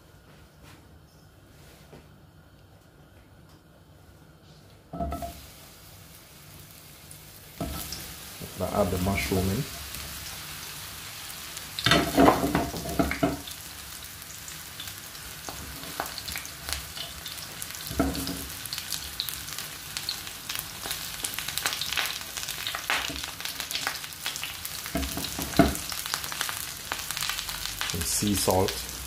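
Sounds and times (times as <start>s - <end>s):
mushrooms sizzling in a frying pan: 5.0s - 29.0s.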